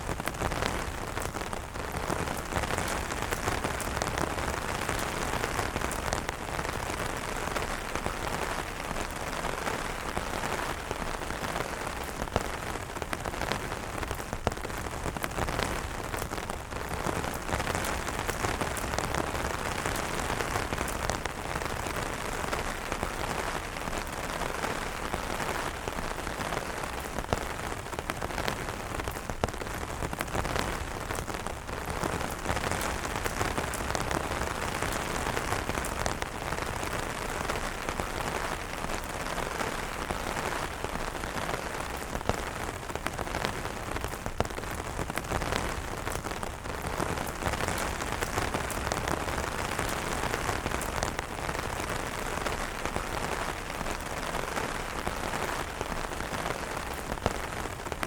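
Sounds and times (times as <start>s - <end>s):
rain pattering on umbrella: 0.0s - 58.0s.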